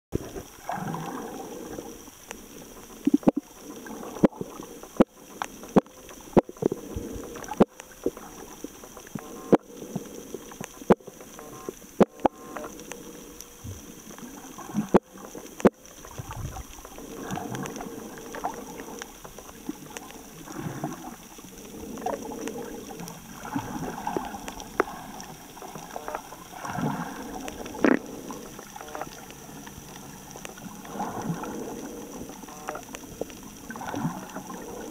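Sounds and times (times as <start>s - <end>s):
underwater sloshing and gurgling: 0.1s - 34.9s
sharp underwater clicks: 0.2s - 34.9s.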